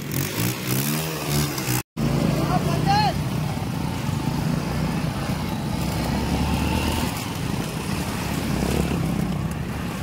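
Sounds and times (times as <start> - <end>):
motorcycle engines running: 0.0 - 10.0
water splashing around wheels: 0.0 - 10.0.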